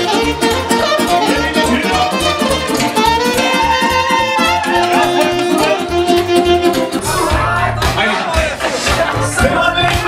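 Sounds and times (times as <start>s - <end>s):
lively folk dance music: 0.0s - 10.0s.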